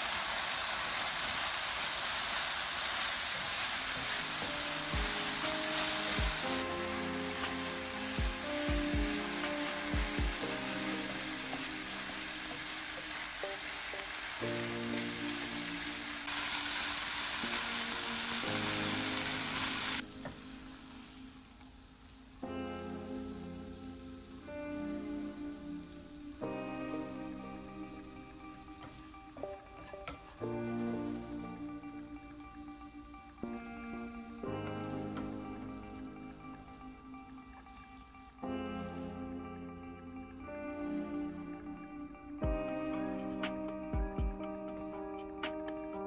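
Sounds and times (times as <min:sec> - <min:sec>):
vegetables sizzling in a frying pan: 0:00.0 - 0:39.2.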